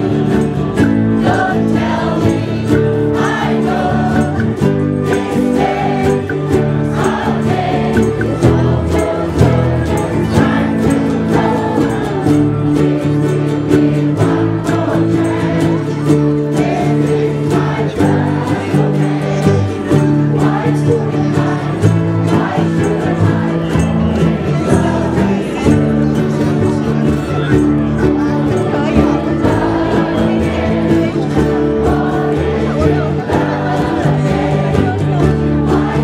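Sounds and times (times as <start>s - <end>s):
many voices singing: 0.0s - 36.0s
ukulele ensemble strumming: 0.0s - 36.0s.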